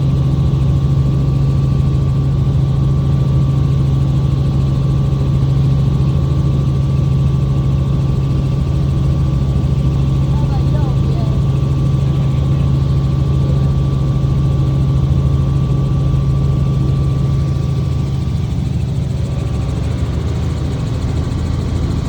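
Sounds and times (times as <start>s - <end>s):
helicopter engine and rotor drone: 0.0s - 22.0s.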